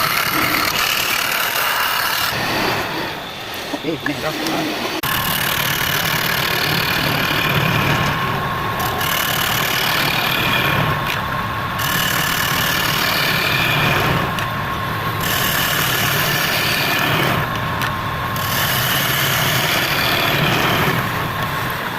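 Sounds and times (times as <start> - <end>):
lathe motor humming and whining: 0.0 - 21.9.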